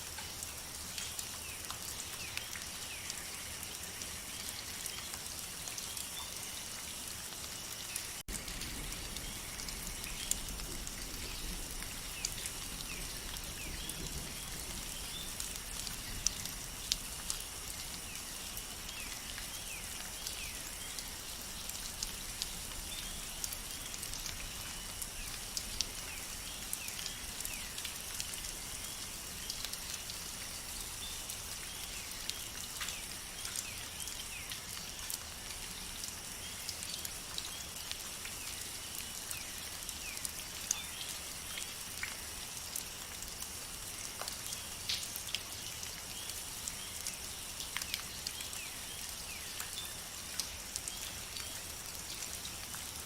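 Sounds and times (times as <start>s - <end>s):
steady rain: 0.0s - 53.0s
water drips: 0.0s - 53.0s.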